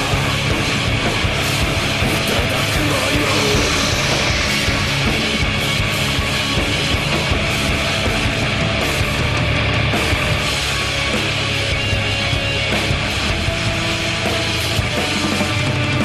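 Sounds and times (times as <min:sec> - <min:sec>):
heavy rock music: 0:00.0 - 0:16.0.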